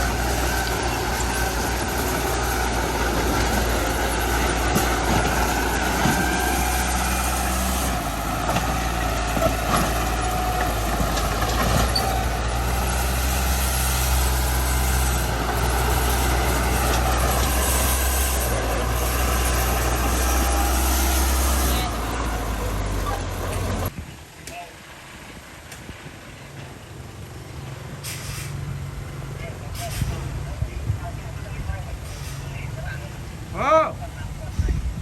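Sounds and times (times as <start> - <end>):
heavy diesel engine droning: 0.0 - 24.0, 24.8 - 35.0.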